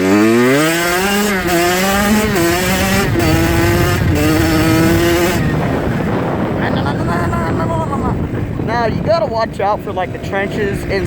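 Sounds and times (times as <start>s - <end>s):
dirt bike engine running: 0.0s - 11.0s
wind noise on microphone: 0.0s - 11.0s.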